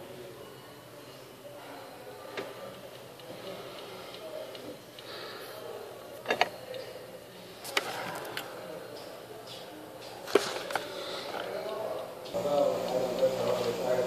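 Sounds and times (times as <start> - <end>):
low murmuring background: 0.0 - 14.0.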